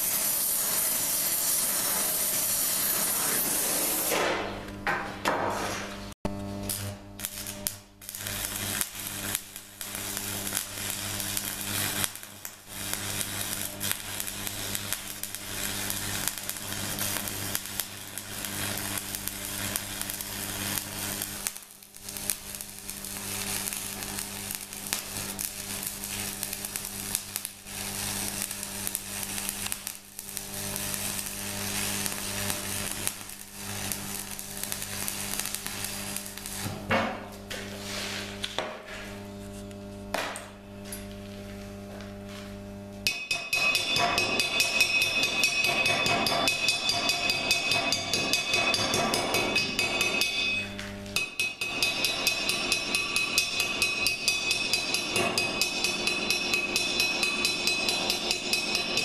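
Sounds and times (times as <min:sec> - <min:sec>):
welding arc crackling: 0:00.0 - 0:04.7, 0:06.3 - 0:38.6, 0:41.2 - 0:59.0
welder humming: 0:00.0 - 0:59.0.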